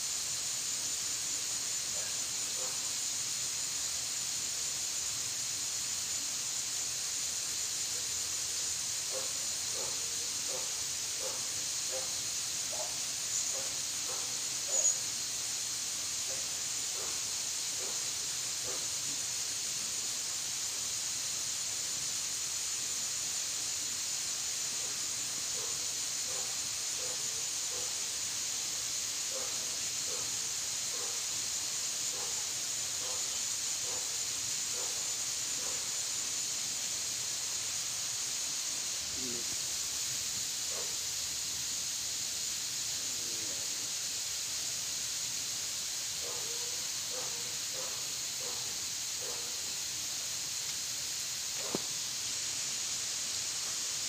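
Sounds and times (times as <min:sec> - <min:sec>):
insect chorus drone: 0:00.0 - 0:54.0.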